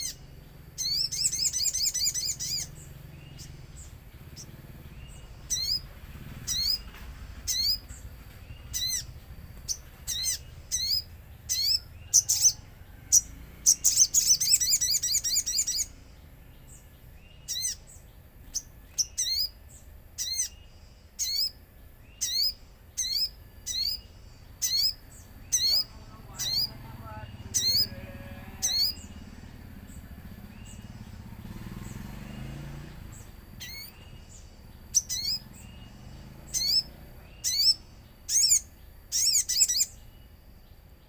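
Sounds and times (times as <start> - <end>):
songbird chirping and trilling: 0.0 - 41.0.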